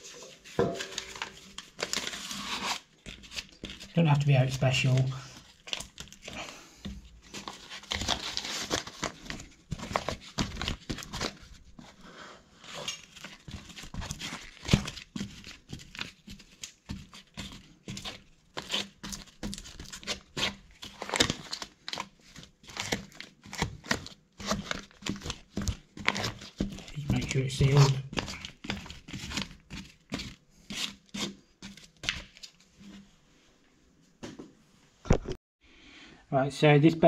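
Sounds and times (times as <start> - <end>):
paper towel crumpling and rubbing: 0.0 - 6.6, 7.2 - 33.1.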